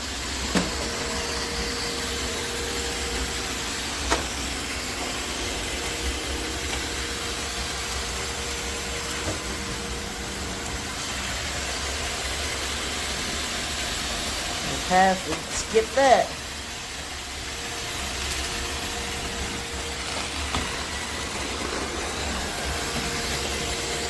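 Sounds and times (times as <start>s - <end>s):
robot vacuum running: 0.0s - 24.0s.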